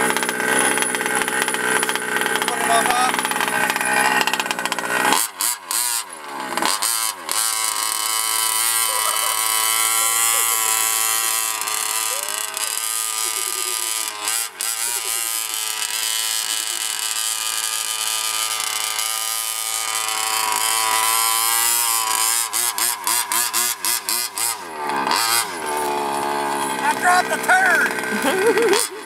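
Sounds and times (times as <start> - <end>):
toy truck motor running: 0.0 - 29.0.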